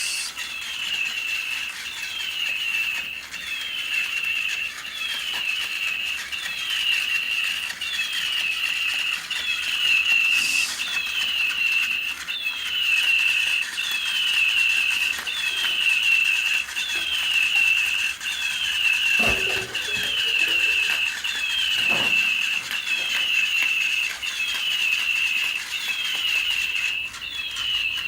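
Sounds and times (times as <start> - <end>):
electronic toy bird chirp: 0.0 - 28.0
fast mechanical wing clicking: 0.3 - 28.0.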